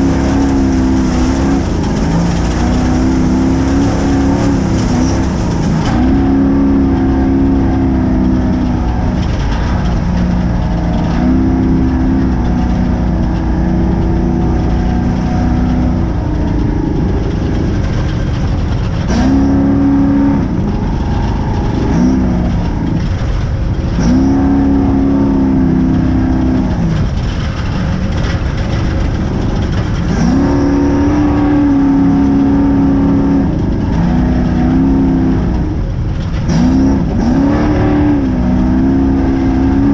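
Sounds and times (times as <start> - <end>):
rough rumble over dirt: 0.0 - 39.9
truck engine at race pace: 0.0 - 39.9.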